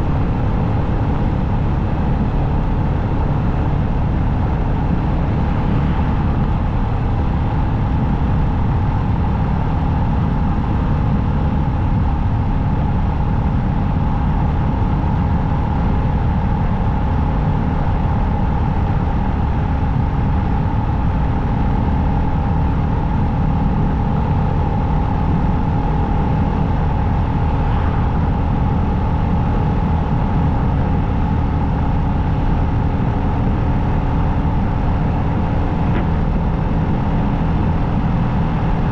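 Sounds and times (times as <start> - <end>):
motorcycle engine drone: 0.0 - 38.9
wind and road noise: 0.0 - 38.9.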